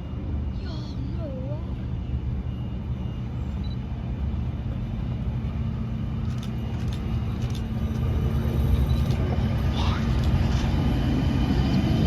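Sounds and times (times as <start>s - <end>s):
constant hum: 0.0s - 12.0s
electric train rumbling: 0.0s - 12.0s.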